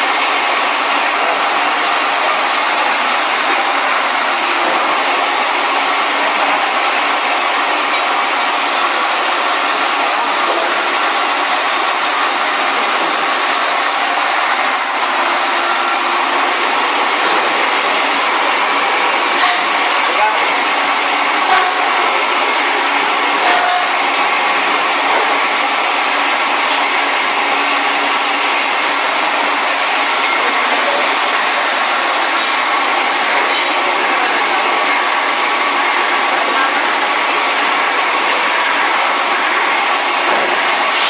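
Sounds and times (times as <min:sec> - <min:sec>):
cutting machine running: 0:00.0 - 0:41.0.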